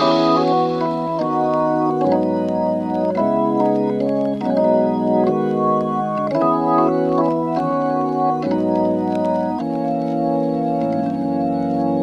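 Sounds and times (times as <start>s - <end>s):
organ-like keyboard chords: 0.0s - 12.0s.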